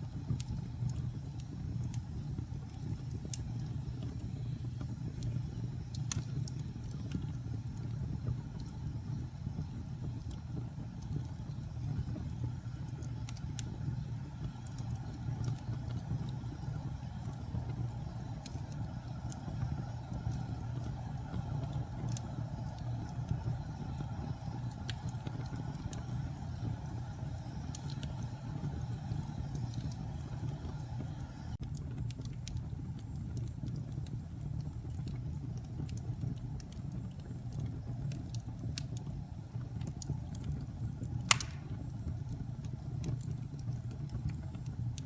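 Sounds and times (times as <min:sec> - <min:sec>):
fire crackling and popping: 0:00.0 - 0:45.0
low rumble of flames: 0:00.0 - 0:45.0
wood fire burning: 0:00.0 - 0:45.0.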